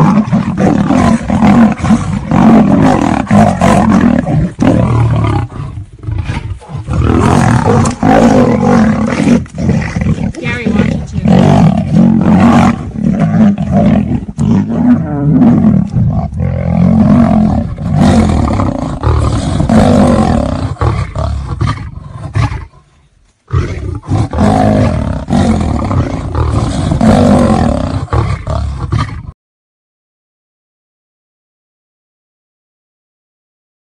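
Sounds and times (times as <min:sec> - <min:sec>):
lion and tiger roaring: 0:00.0 - 0:29.4.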